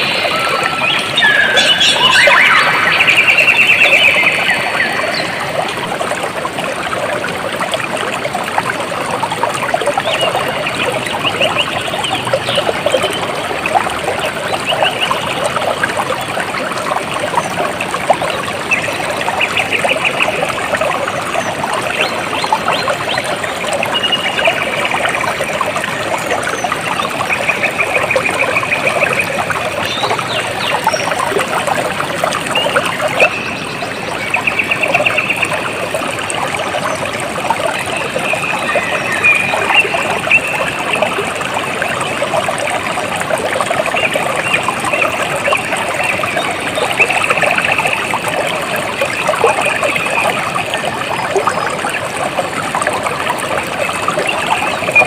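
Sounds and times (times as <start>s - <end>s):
water babbling over stones: 0.0s - 55.0s.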